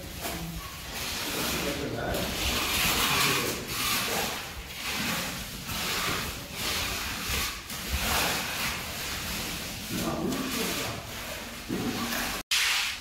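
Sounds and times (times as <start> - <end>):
trowel scraping wet cement: 0.0 - 13.0.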